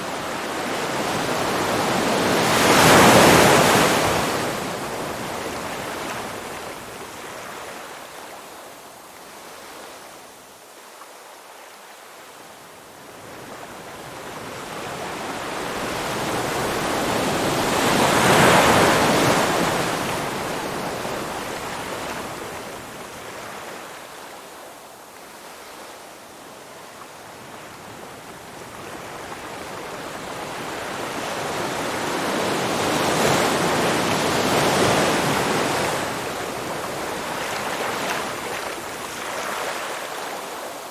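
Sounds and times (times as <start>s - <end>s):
ocean waves rolling in: 0.0s - 10.3s, 12.9s - 40.9s.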